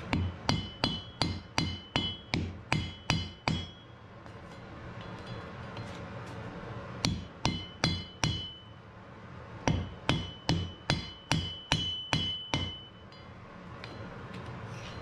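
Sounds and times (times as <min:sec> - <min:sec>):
hammer striking metal on anvil: 0:00.0 - 0:06.1, 0:07.0 - 0:08.8, 0:09.6 - 0:14.4.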